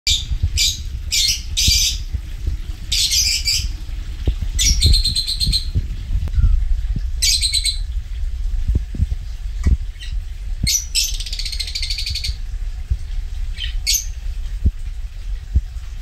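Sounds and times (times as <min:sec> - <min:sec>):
low rumble: 0:00.1 - 0:16.0.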